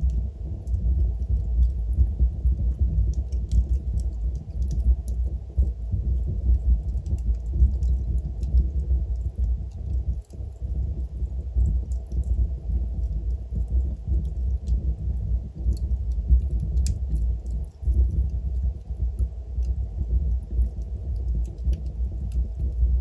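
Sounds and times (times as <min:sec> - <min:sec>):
fire rumbling: 0:00.0 - 0:23.0
logs crackling and popping: 0:00.0 - 0:23.0.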